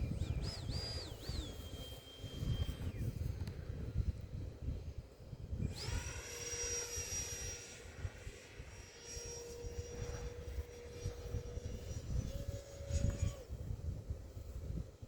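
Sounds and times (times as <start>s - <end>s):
electric fan motor whining: 0.0s - 14.5s
wind buffeting microphone: 0.0s - 15.0s.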